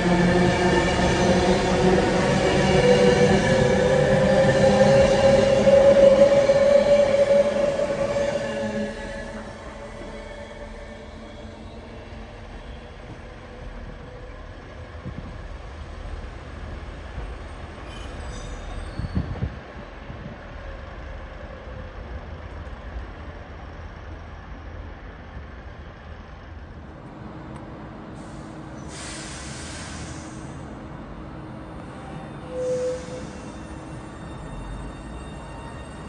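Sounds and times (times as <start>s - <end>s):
train rumbling: 0.0s - 36.0s.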